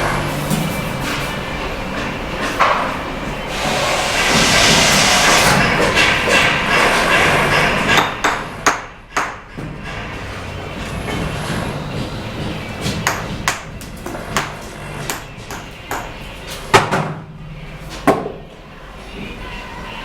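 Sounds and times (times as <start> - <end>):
scraping and site noise: 0.0 - 16.8.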